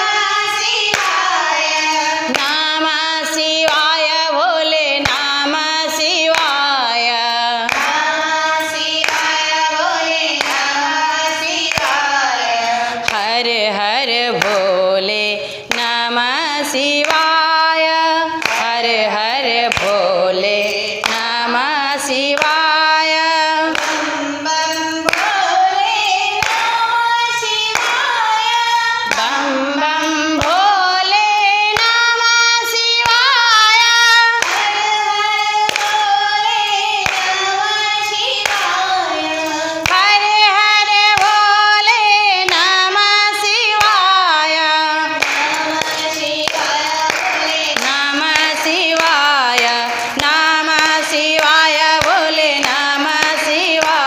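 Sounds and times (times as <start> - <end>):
hand-clapping: 0.0 - 54.0
women singing devotional song: 0.0 - 54.0.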